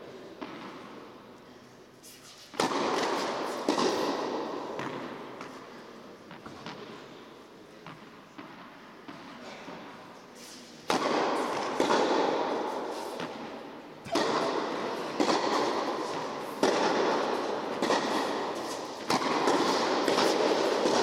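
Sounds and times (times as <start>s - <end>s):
echo in indoor hall: 0.0s - 21.0s
tennis ball hit with racket: 0.4s - 1.0s, 2.3s - 7.0s, 7.8s - 9.9s, 10.6s - 21.0s.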